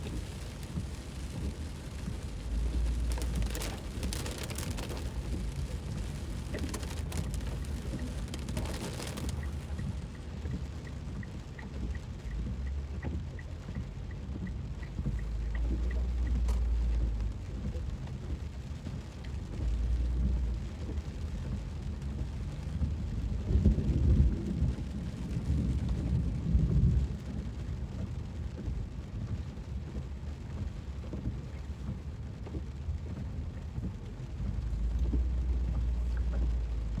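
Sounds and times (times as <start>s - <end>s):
light ticking: 0.0s - 23.7s, 26.9s - 37.0s
heavy rain on a car: 0.0s - 37.0s
low rumble: 0.0s - 37.0s.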